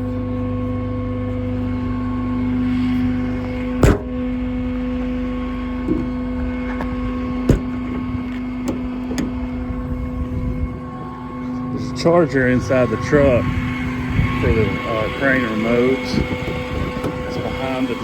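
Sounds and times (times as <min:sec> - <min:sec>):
diesel engine rumble: 0:00.0 - 0:18.0
hydraulic system whine: 0:00.0 - 0:18.0.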